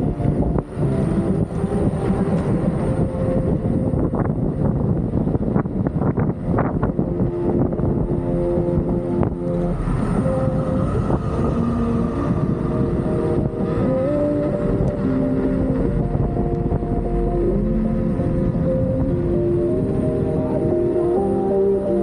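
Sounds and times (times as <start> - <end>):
music with held notes: 0.0 - 22.0
wind rumble on microphone: 0.0 - 22.0.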